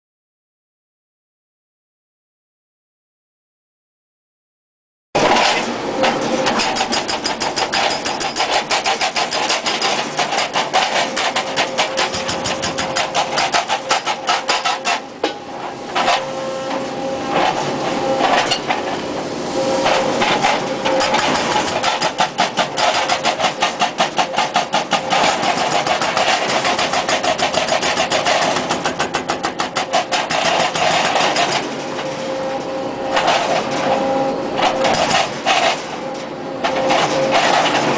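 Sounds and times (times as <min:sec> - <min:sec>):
hydraulic breaker hammering: 0:05.2 - 0:18.9, 0:19.9 - 0:37.9.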